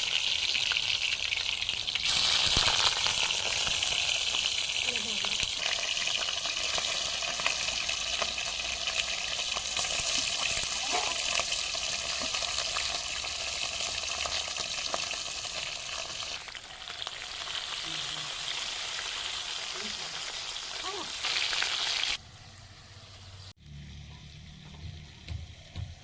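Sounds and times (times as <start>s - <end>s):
food sizzling in hot oil: 0.0s - 23.6s.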